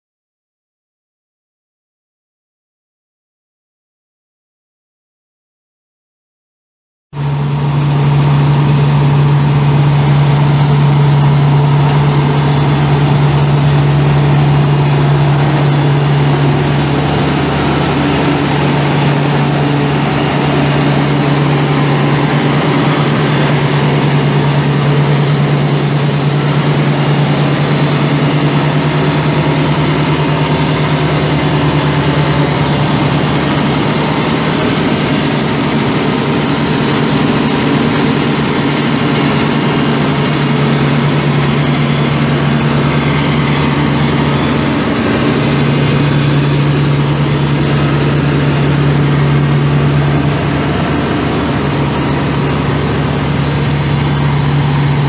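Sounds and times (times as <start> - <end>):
diesel engine idling: 7.2 - 55.0.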